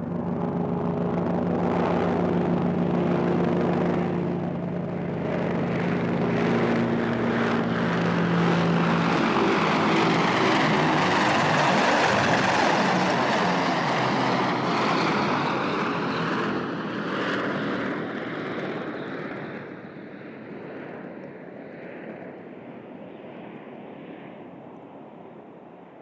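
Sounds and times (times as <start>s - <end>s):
airplane engine passing: 0.0s - 25.8s.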